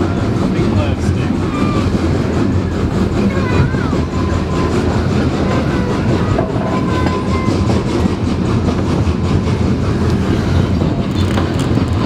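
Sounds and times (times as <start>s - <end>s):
rumble of wheels on rails: 0.0s - 12.0s.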